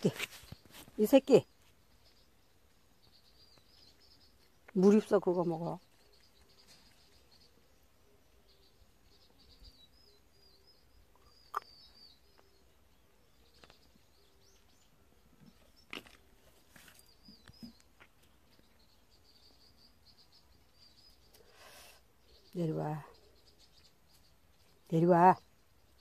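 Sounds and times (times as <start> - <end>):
distant birds chirping: 0.0 - 26.0.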